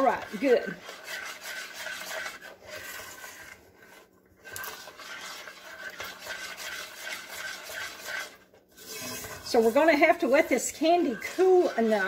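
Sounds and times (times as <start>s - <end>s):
spoon scraping metal pot: 0.0s - 12.0s.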